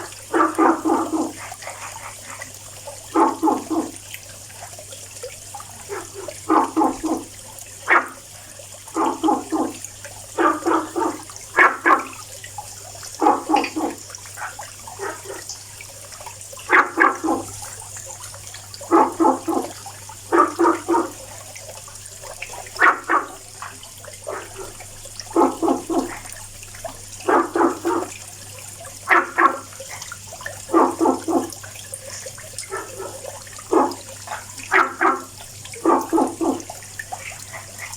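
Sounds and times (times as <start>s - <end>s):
frogs calling: 0.0s - 4.1s, 5.6s - 12.4s, 13.0s - 15.8s, 16.6s - 18.2s, 18.8s - 21.4s, 22.2s - 26.4s, 27.2s - 28.2s, 29.0s - 37.9s.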